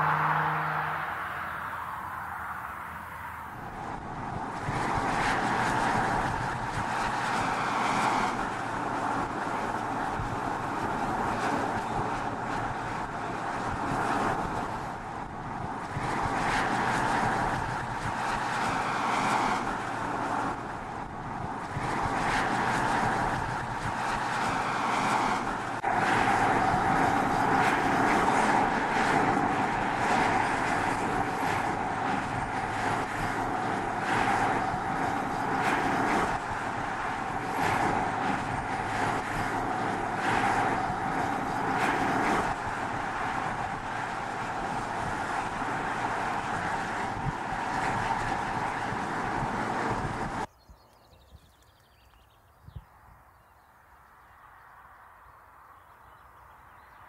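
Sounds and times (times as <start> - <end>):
car driving at road speed: 0.0 - 57.0.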